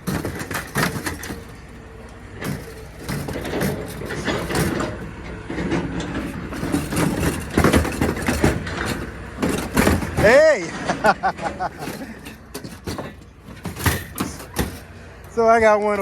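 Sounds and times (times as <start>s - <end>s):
vehicle engines running: 0.0s - 16.0s
hand tools knocking on metal: 2.4s - 16.0s.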